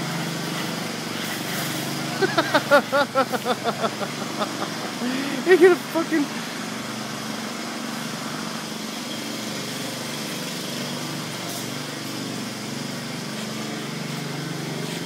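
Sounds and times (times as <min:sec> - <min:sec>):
small lawnmower engine running: 0:00.0 - 0:15.0.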